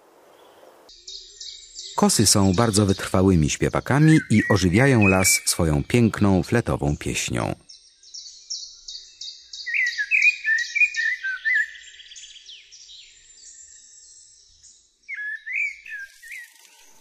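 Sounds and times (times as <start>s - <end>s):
blackbird singing: 0.4s - 16.5s.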